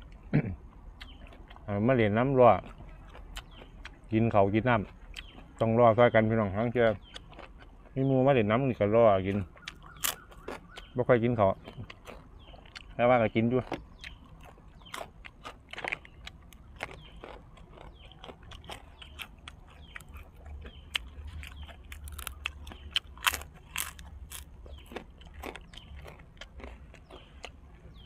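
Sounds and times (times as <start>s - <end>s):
person chewing crunchy food: 0.0s - 5.9s, 6.5s - 8.1s, 8.8s - 28.0s.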